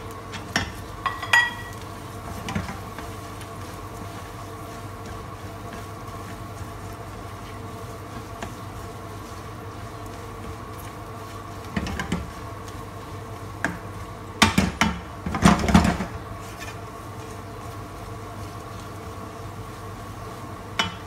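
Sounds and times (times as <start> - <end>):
spatula scraping frying pan: 0.3 - 19.4.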